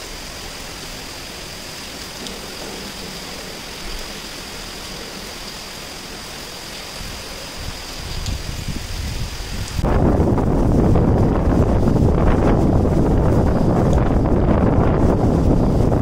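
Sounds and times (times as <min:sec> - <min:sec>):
heavy rain pouring: 0:00.0 - 0:16.0
wind rumbling on microphone: 0:00.0 - 0:16.0.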